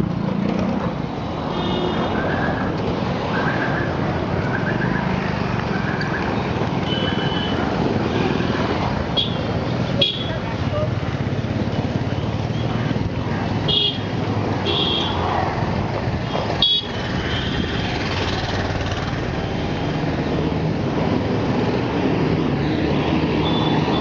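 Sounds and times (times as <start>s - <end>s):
road traffic engines: 0.0s - 24.0s.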